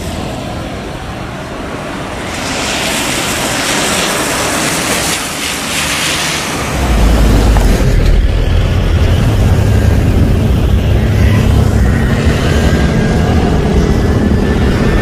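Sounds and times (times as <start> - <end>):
jet airliner taking off: 0.0 - 15.0.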